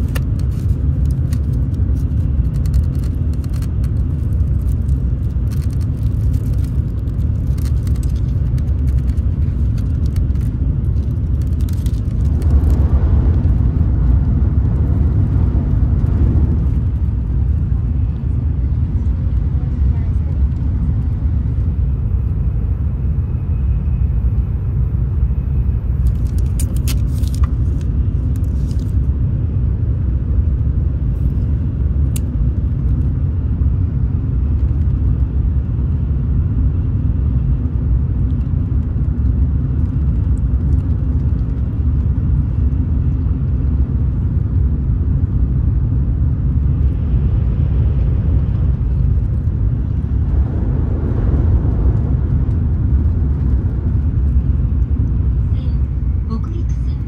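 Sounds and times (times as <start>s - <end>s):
train cabin low rumble: 0.0s - 57.0s.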